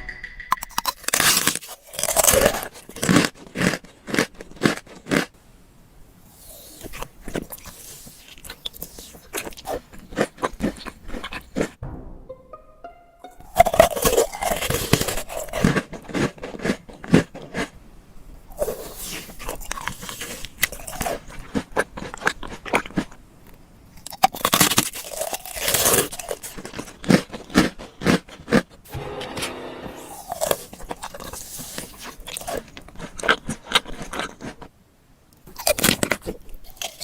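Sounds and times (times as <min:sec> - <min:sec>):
person chewing crunchy food: 0:00.6 - 0:05.4, 0:06.3 - 0:11.8, 0:13.5 - 0:17.8, 0:18.4 - 0:23.2, 0:23.9 - 0:28.8, 0:30.2 - 0:34.7, 0:35.4 - 0:37.0.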